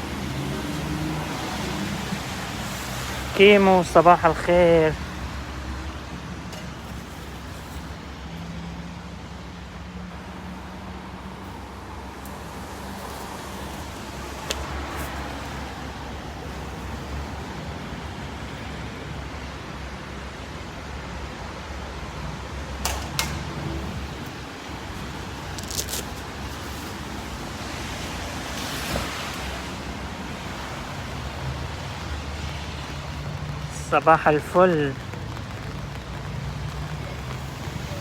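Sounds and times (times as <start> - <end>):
rain hissing: 0.0 - 38.0
road traffic rumble: 0.0 - 38.0.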